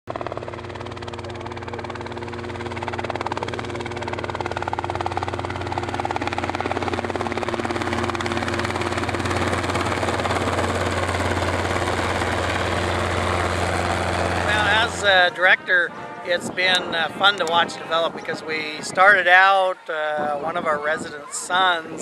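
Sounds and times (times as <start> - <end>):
helicopter rotor pulse: 0.1 - 22.0.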